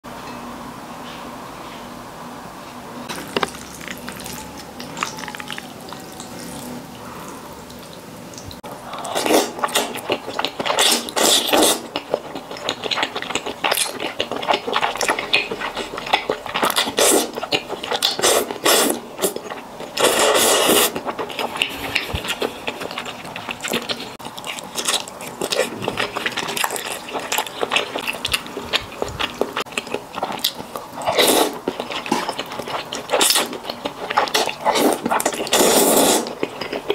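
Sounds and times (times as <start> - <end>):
slurping and chewing noodles: 3.1 - 36.9.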